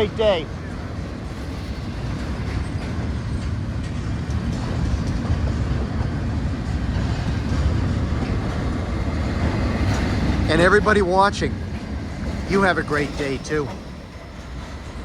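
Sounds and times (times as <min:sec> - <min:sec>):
steel wheels rumbling on rail: 0:00.0 - 0:15.0.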